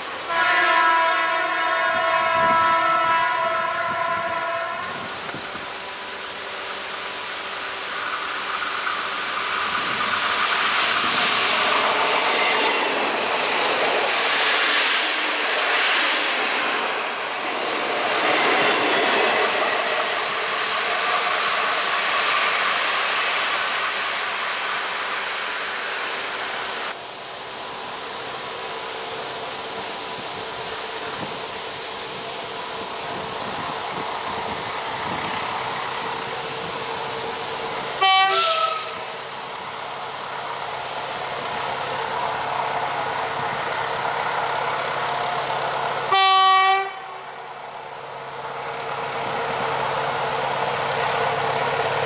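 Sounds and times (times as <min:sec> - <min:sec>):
diesel railcar passing on track: 0:00.0 - 0:52.0.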